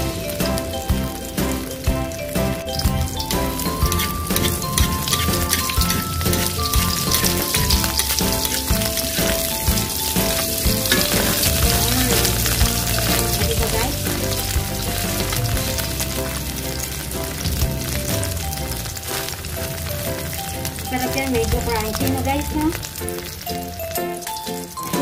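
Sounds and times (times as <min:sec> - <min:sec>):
background music melody: 0:00.0 - 0:25.0
food sizzling in hot oil: 0:00.0 - 0:25.0.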